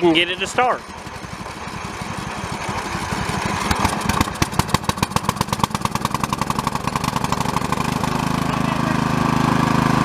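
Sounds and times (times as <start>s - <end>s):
riding lawn mower engine: 0.0s - 10.0s.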